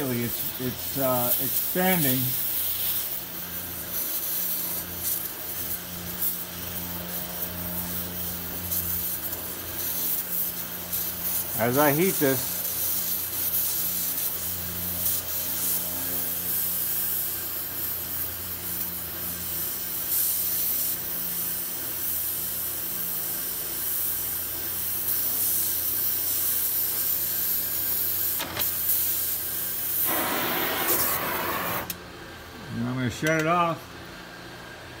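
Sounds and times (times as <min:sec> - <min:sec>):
gas torch flame hissing: 0:00.0 - 0:32.1.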